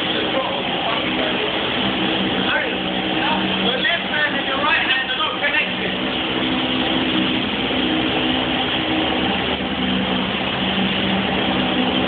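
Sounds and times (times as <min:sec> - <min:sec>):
boat engine humming in a tunnel: 0:00.0 - 0:12.0.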